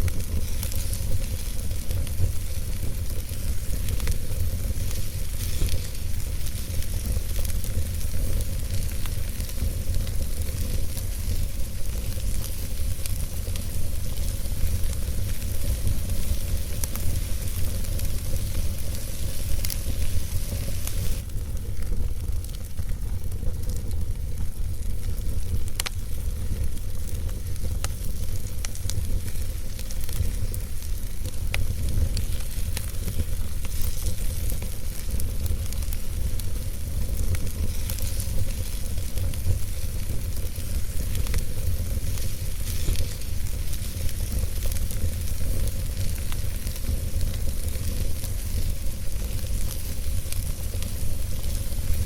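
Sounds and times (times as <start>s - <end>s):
fire hissing: 0.0s - 52.0s
wood crackling and popping: 0.0s - 52.0s.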